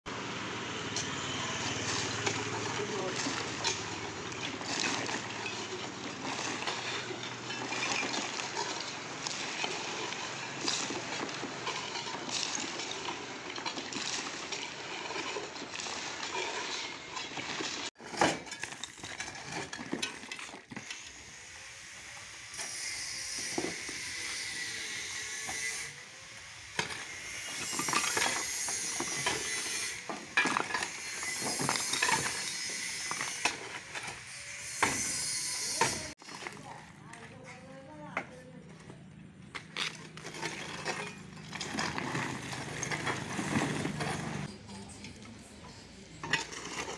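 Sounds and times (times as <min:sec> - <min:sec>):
shovel scraping gravel: 0:01.0 - 0:21.4, 0:22.2 - 0:36.8, 0:39.5 - 0:45.0, 0:46.0 - 0:46.9.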